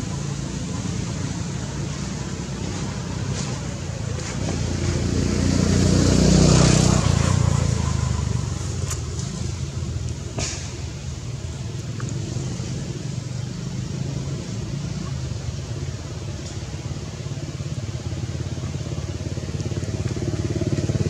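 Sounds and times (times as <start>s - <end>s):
low engine hum: 0.0s - 21.0s
motor vehicle passing: 0.0s - 21.0s.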